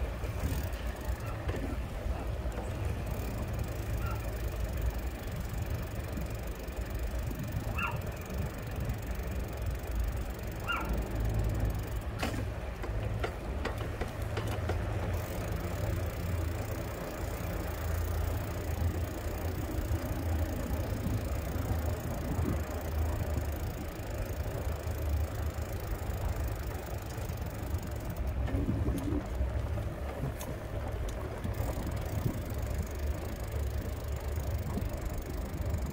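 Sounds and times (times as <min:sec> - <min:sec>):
low vehicle rumble: 0:00.0 - 0:35.9.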